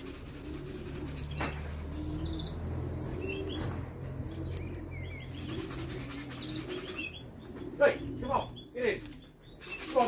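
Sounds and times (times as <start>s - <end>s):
birds chirping: 0.0s - 10.0s
pigeons cooing: 0.0s - 10.0s.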